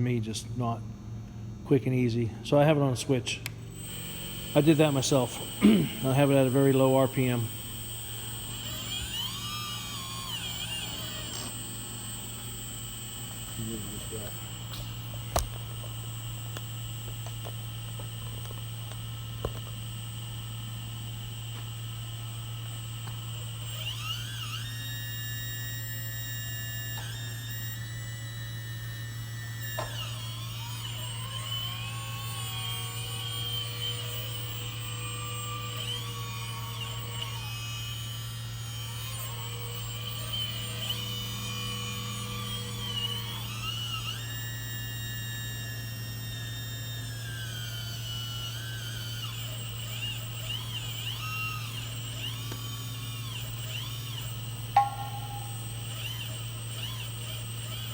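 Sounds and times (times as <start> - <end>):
steady low hum: 0.0 - 47.3, 48.6 - 57.9
hydraulic pump whining: 2.5 - 57.9.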